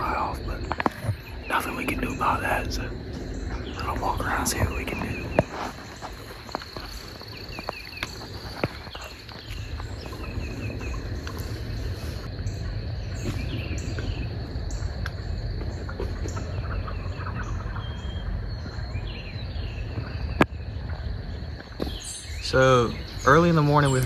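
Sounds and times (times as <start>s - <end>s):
high insect drone: 0.0s - 24.0s
low rumble: 0.0s - 24.0s
woodland bird chorus: 0.0s - 24.0s.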